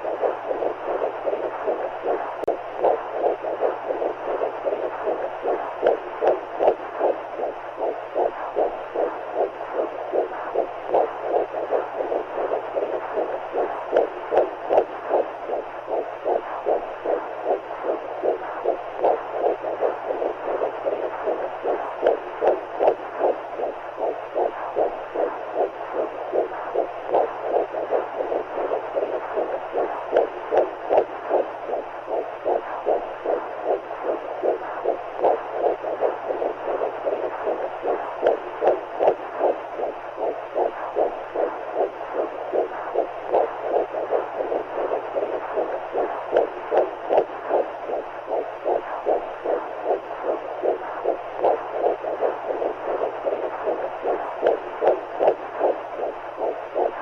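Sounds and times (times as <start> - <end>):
faint low hum: 0.0 - 57.0
fast heartbeat: 0.0 - 57.0.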